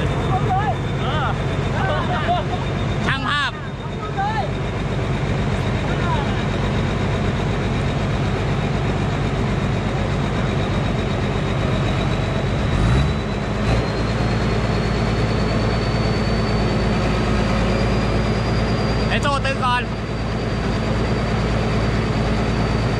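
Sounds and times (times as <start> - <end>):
diesel engine under load: 0.0 - 22.9
high whine: 0.0 - 22.9.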